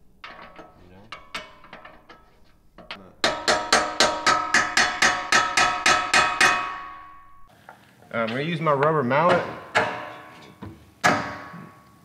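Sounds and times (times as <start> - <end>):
ringing metallic clanks: 0.0 - 7.5, 9.2 - 12.0.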